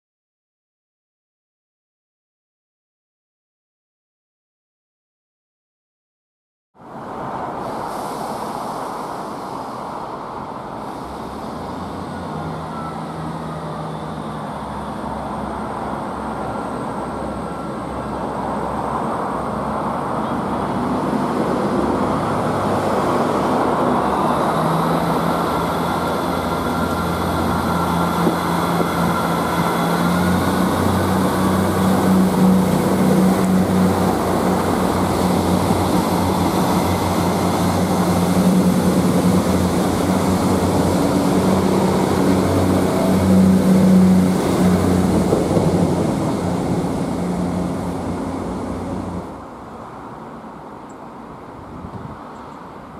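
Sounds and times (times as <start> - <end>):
diesel train passing: 6.8 - 52.9.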